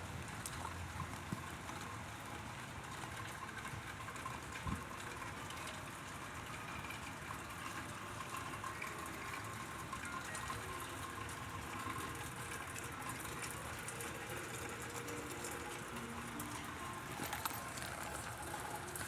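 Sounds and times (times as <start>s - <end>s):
drips and light ticks: 0.0s - 19.0s
steady rain: 0.0s - 19.0s.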